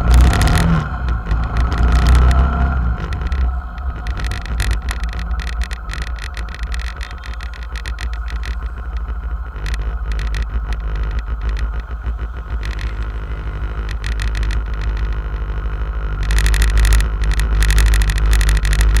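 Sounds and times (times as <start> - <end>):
motorcycle engines idling: 0.0 - 19.0.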